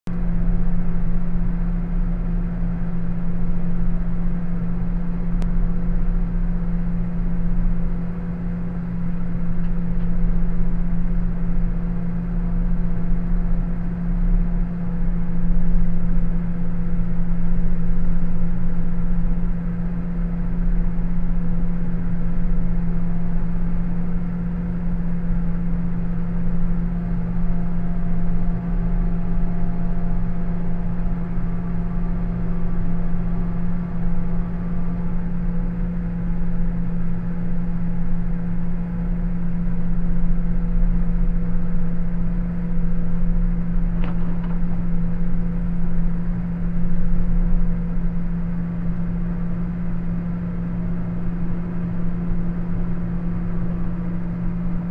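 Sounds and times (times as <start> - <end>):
combine harvester diesel engine drone: 0.1 - 54.9.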